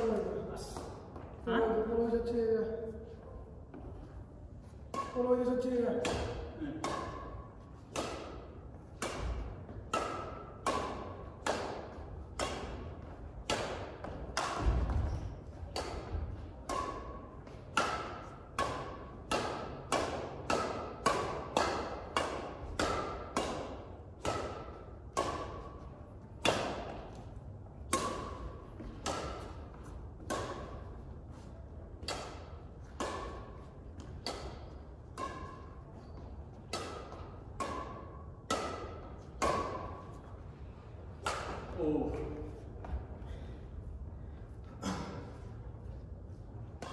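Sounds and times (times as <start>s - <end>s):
rackets striking shuttlecock: 4.6s - 42.0s, 46.6s - 46.9s.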